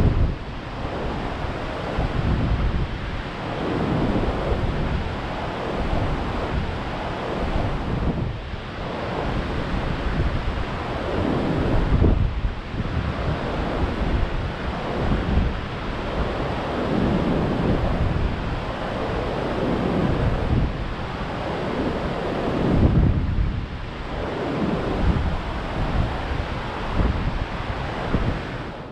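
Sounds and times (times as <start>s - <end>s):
waves breaking on beach: 0.0s - 28.9s
wind buffeting microphone: 0.0s - 28.9s.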